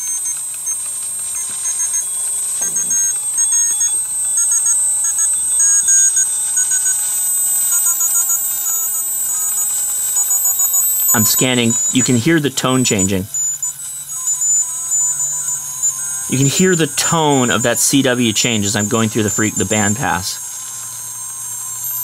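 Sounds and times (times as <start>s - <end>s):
morse code beeps: 0.0s - 22.0s
radio band hiss: 0.0s - 22.0s.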